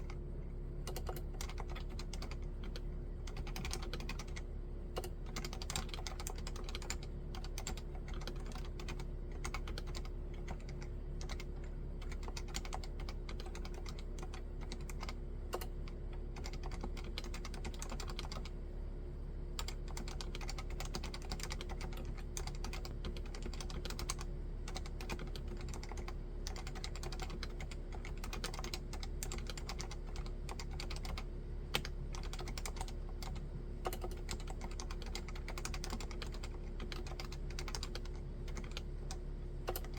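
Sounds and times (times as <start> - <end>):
fast keyboard typing: 0.0 - 0.2, 0.8 - 18.6, 19.6 - 39.9.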